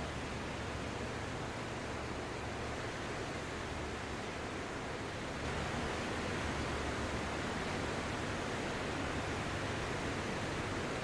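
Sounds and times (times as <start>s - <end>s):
sea waves on sandy beach: 0.0s - 11.0s.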